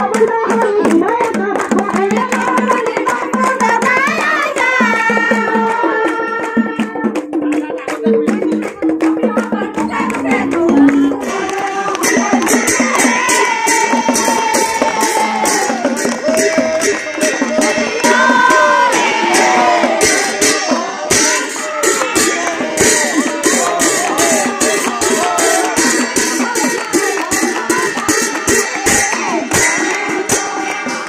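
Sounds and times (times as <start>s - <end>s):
group of women singing: 0.0s - 7.6s, 8.6s - 31.0s
rhythmic hand clapping: 0.0s - 31.0s.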